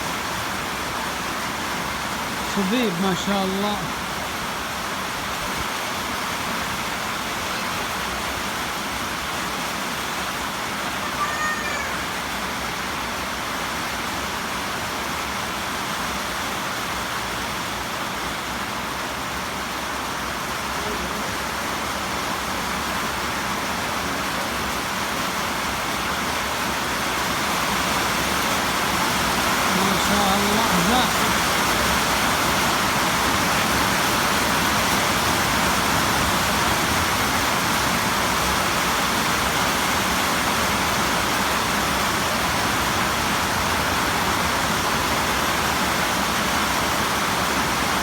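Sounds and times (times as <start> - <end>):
floodwater rushing: 0.0 - 48.0.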